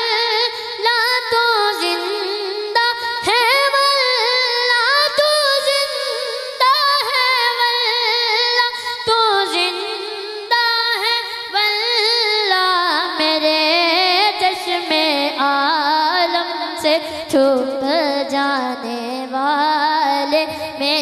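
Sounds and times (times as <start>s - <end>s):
boy singing into a microphone: 0.0s - 21.0s.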